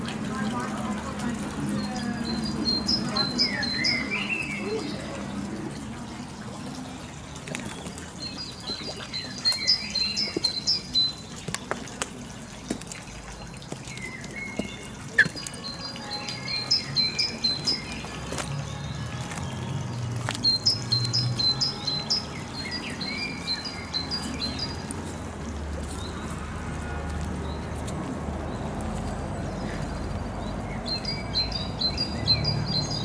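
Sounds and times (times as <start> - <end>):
songbird chirping: 0.2 - 12.9, 13.6 - 33.0.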